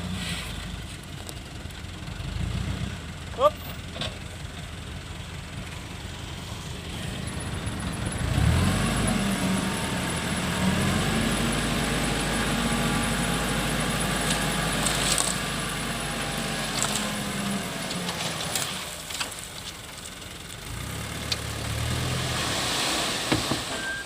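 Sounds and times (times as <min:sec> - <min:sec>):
diesel engine revving: 0:01.6 - 0:03.9, 0:04.7 - 0:24.0.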